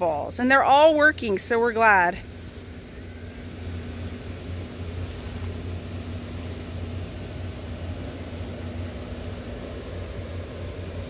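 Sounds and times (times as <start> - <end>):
blower fans humming: 0.0 - 11.0.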